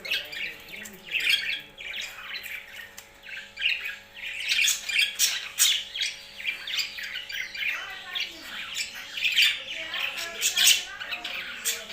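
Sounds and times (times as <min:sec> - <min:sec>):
pet birds harsh calls: 0:00.0 - 0:11.9.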